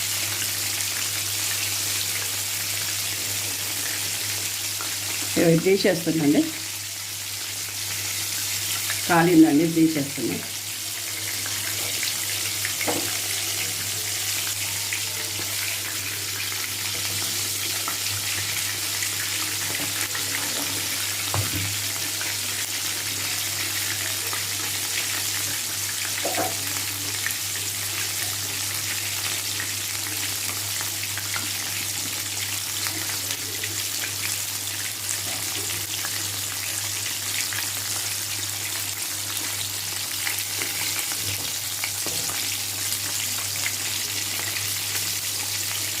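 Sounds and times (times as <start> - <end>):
chicken deep-frying in oil: 0.0 - 46.0.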